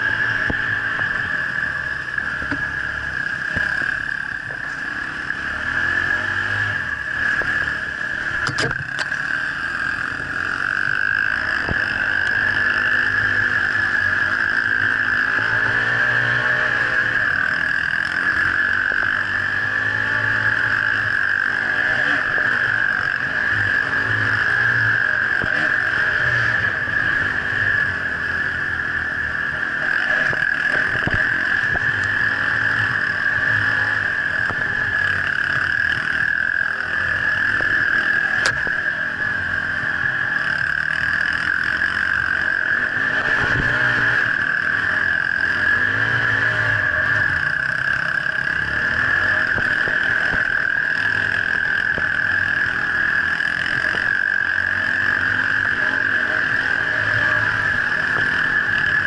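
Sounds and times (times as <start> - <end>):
dirt bike engine running: 0.0 - 59.0
high-pitched hum: 0.0 - 59.0.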